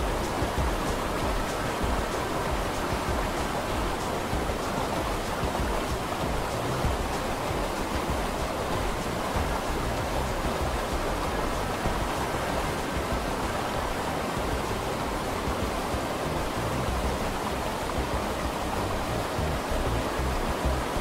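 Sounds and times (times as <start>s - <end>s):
rushing ambient noise: 0.0s - 21.0s
soft background music: 0.0s - 21.0s.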